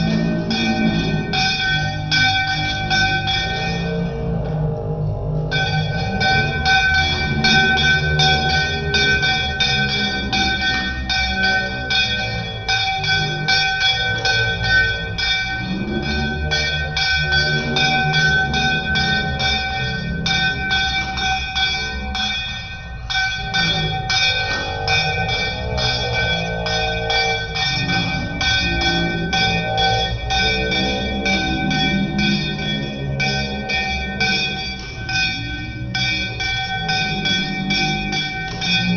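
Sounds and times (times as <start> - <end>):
bell ringing rapidly: 0.0 - 38.9.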